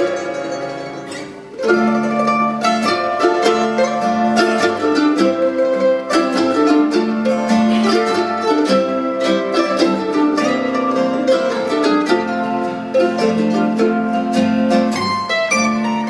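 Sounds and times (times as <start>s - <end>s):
acoustic guitar: 0.0s - 16.0s
mandolin melody: 0.0s - 16.0s.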